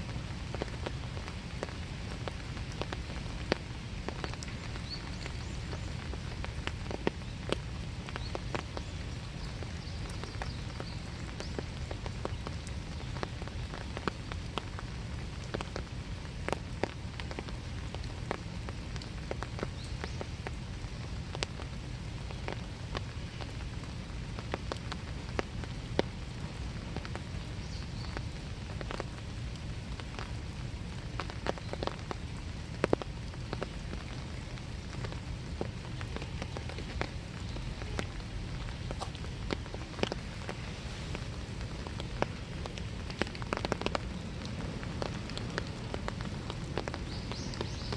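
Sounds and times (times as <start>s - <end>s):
steady rain in woods: 0.0s - 47.9s.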